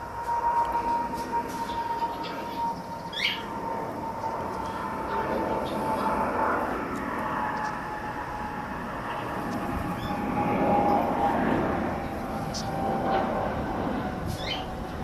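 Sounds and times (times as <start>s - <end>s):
distant engine drone: 0.0s - 15.0s
outdoor background noise: 0.0s - 15.0s.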